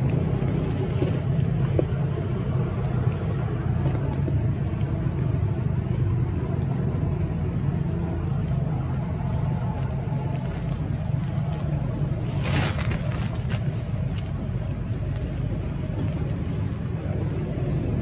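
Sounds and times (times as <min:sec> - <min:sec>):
low rumble with hum: 0:00.0 - 0:18.0.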